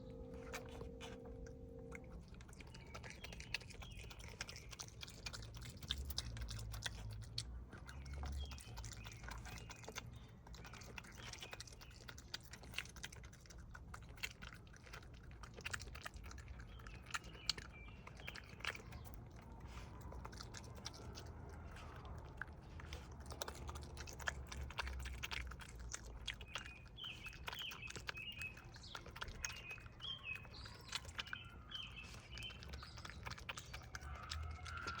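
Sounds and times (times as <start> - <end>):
raccoon chewing and crunching food: 0.0 - 35.0.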